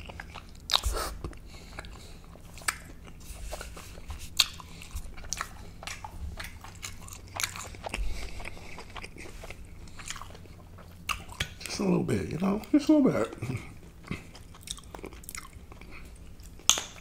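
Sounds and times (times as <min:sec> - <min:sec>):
chewing food with mouth smacks: 0:00.0 - 0:17.0.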